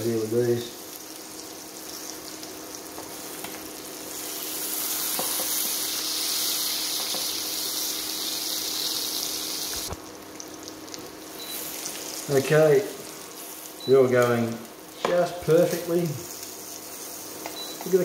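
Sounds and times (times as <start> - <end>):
mushrooms sizzling in a pan: 0.0 - 18.0.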